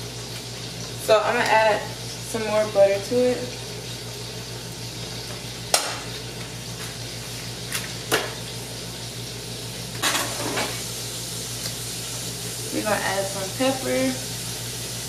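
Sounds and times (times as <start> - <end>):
food sizzling on stove: 0.0 - 15.0.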